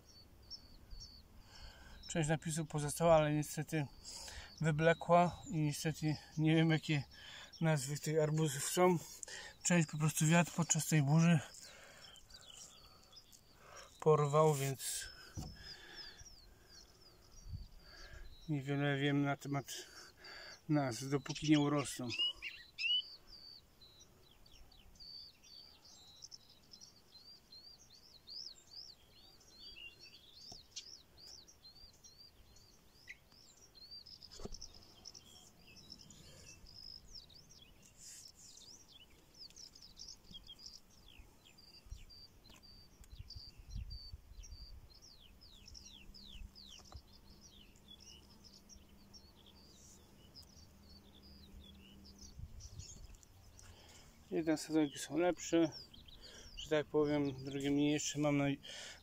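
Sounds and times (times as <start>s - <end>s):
faint bird chirps: 0.0s - 59.0s
outdoor background noise: 0.0s - 59.0s.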